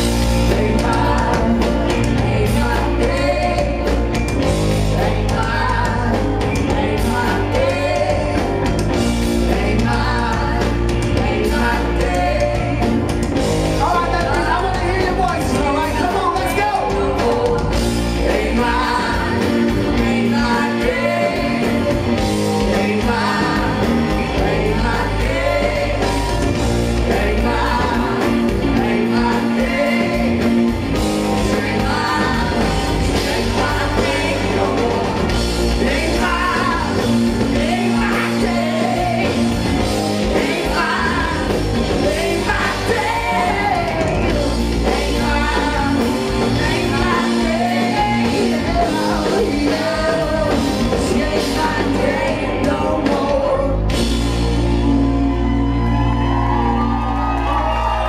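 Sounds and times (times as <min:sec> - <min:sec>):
man singing lead vocals: 0:00.0 - 0:55.9
live rock band: 0:00.0 - 0:58.0.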